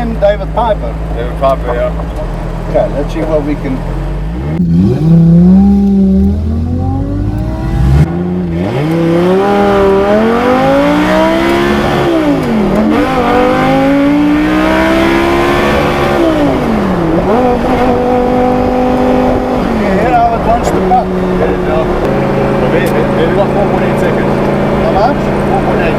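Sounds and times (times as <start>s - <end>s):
car engine accelerating hard: 0.9s - 25.9s.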